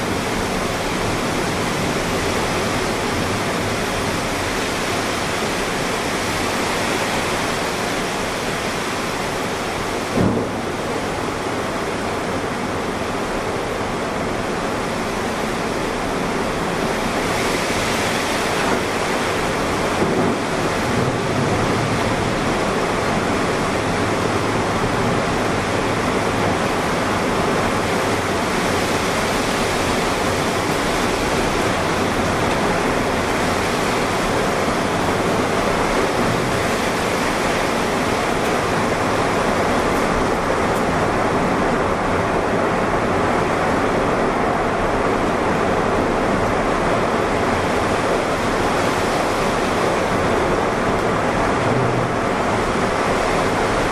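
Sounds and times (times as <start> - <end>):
heavy rain: 0.0 - 53.9
tornado wind: 0.0 - 53.9.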